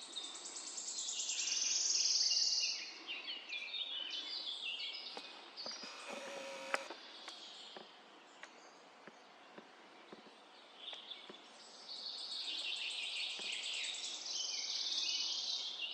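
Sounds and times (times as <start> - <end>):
forest birds singing: 0.0 - 15.9.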